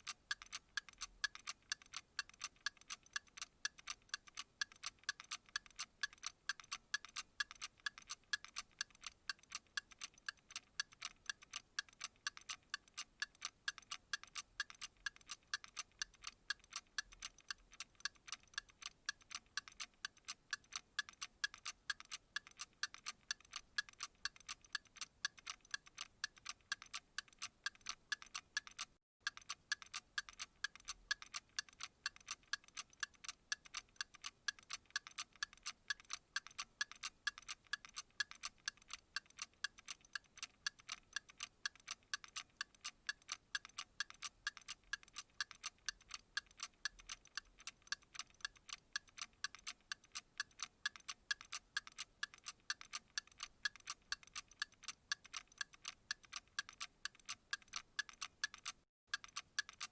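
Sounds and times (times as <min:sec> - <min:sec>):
clock-like ticking: 0:00.0 - 0:59.9.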